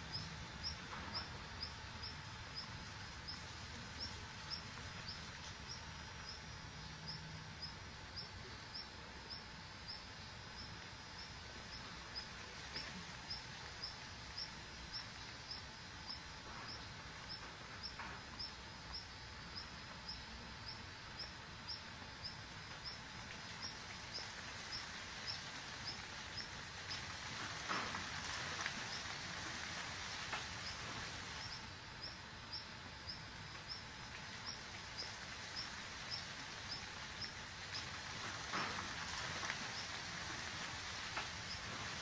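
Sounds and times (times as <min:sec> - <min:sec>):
faint outdoor background noise: 0:00.0 - 0:42.0.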